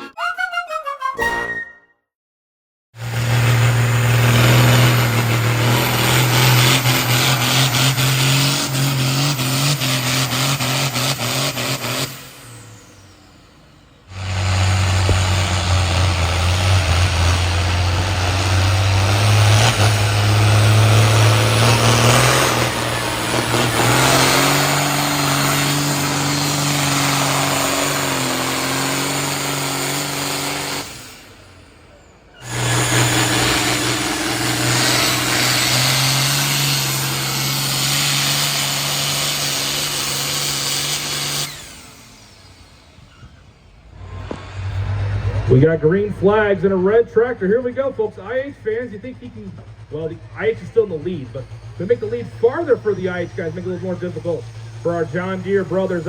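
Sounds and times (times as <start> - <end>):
pulling engines at full throttle: 3.0 - 56.0.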